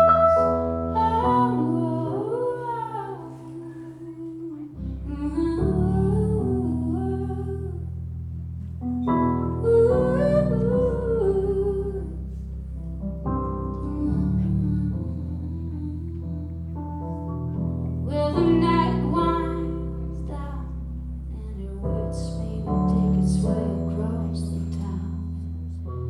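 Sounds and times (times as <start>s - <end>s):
humming-like melody: 0.0s - 8.0s, 9.0s - 26.0s.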